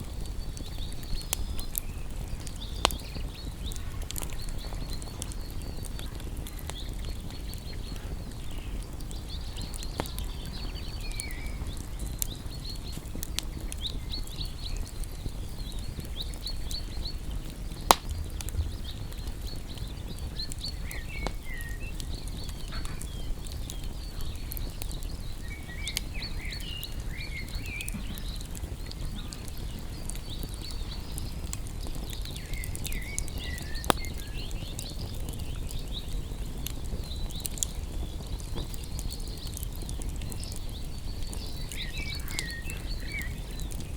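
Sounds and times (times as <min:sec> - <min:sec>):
birds chirping: 0:00.0 - 0:43.9
campfire crackling and popping: 0:00.0 - 0:43.9.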